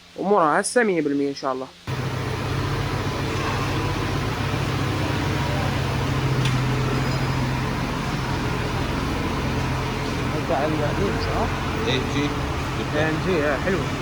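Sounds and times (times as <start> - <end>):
low mechanical hum: 1.8 - 14.0.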